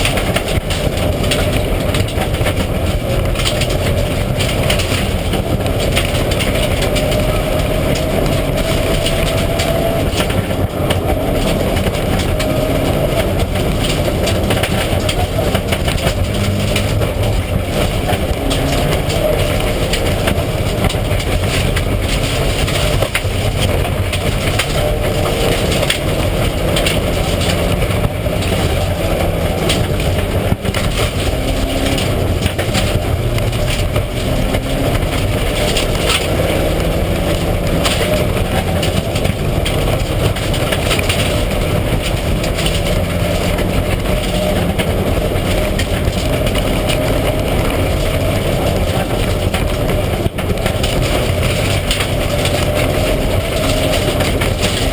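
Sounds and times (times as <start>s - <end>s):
rally car engine revving: 0.0s - 54.9s
road and tyre noise: 0.0s - 54.9s.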